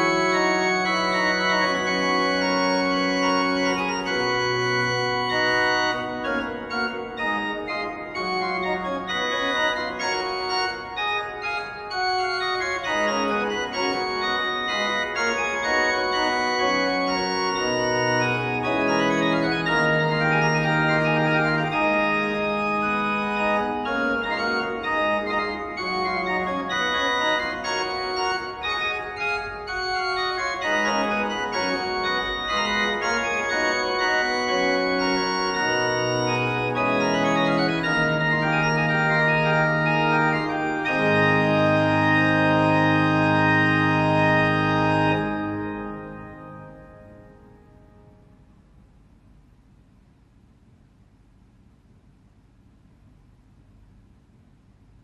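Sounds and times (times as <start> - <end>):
organ playing slow chords: 0.0 - 48.8.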